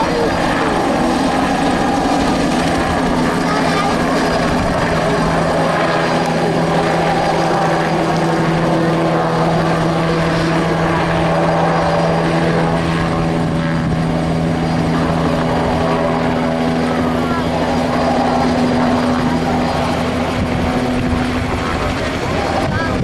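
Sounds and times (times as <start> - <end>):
helicopter in flight: 0.0 - 23.0.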